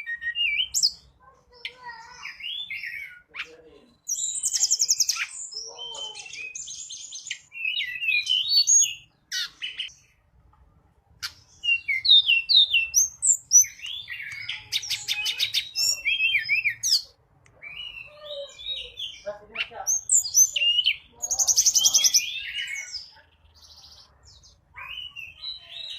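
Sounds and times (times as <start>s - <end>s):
songbird chirping and whistling: 0.0s - 10.2s, 11.2s - 25.9s.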